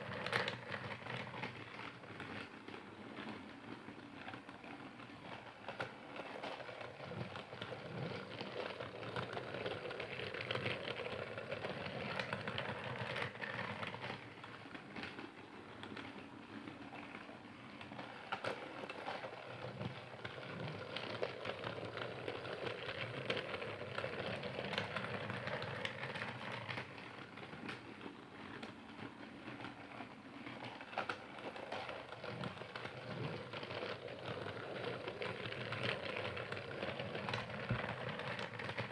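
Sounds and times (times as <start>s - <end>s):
toy train clattering: 5.3s - 16.2s, 16.9s - 28.7s, 29.3s - 38.9s.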